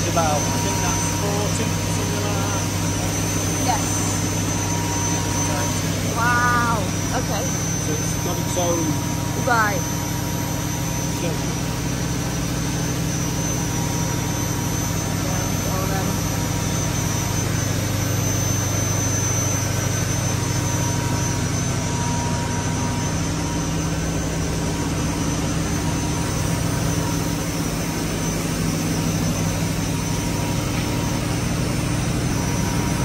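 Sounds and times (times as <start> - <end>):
gas engine drone: 0.0 - 33.0
thin steady whine: 0.0 - 33.0.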